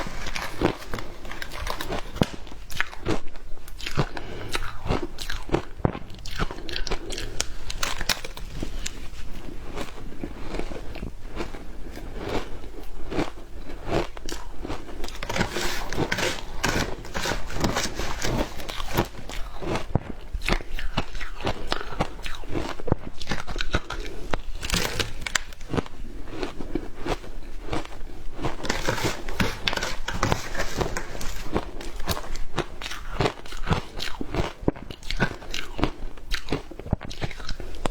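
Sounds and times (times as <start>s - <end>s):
ice being bitten and chewed: 0.0s - 37.9s.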